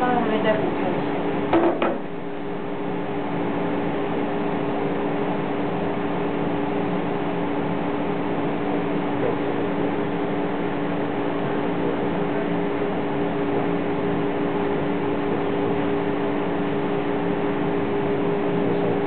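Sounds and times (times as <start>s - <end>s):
steady two-tone hum: 0.0s - 19.0s.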